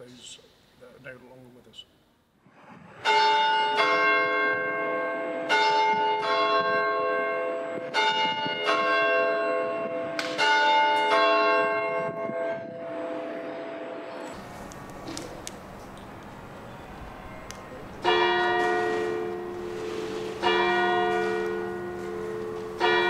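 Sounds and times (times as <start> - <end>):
clock tower bells chiming: 3.0 - 23.0.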